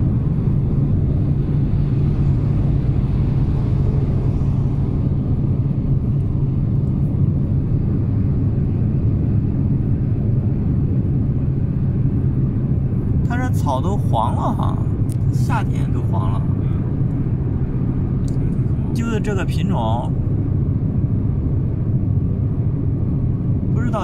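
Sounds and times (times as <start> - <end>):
vehicle engine and road drone: 0.0 - 24.0.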